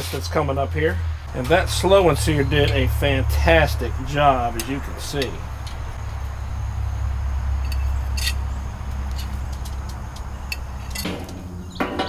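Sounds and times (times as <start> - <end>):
low rumble: 0.6 - 11.8
tongs scraping grill grate: 1.2 - 12.0.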